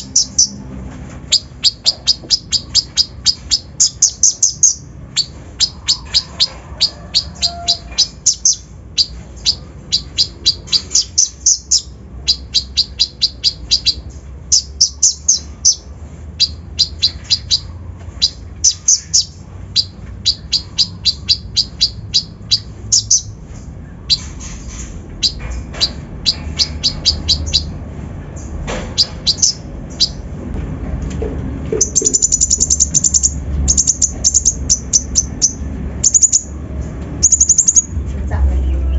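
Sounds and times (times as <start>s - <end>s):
bird chirping high and fast: 0.0s - 0.6s, 1.2s - 30.3s, 31.7s - 38.0s.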